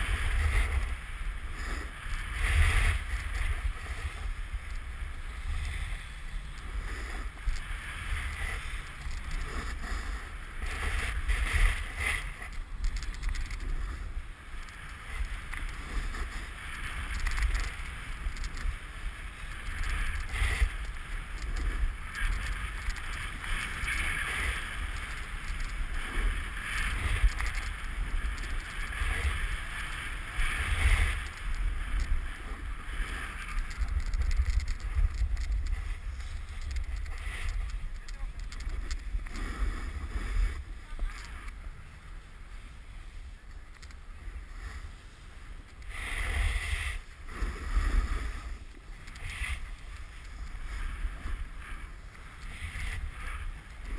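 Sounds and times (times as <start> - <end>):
snowboard scraping over snow: 0.0 - 53.9
wind rumbling on microphone: 0.0 - 53.9.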